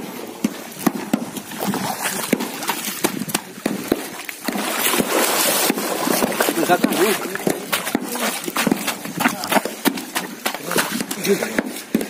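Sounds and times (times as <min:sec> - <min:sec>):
river water splashing over stones: 0:00.0 - 0:12.0
sharp knocks: 0:00.4 - 0:12.0.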